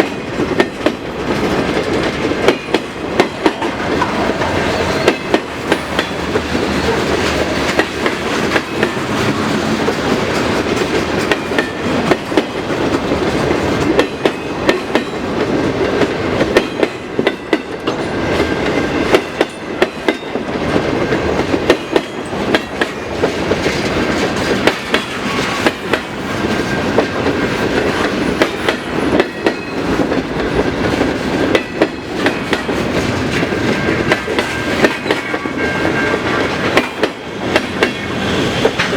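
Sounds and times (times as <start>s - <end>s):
train wheels rumbling on rail: 0.0s - 38.9s
wheels clunking over rail joints: 0.0s - 38.9s.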